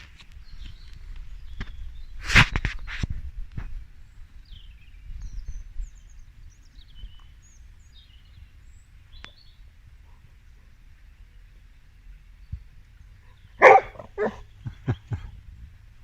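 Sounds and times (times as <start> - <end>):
songbird chirping and warbling: 0.3 - 3.0, 3.9 - 15.1
low outdoor rumble: 3.2 - 16.0.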